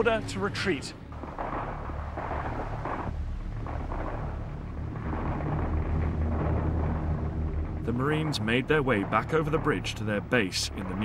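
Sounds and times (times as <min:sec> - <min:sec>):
distant battle rumble: 0:00.0 - 0:11.0.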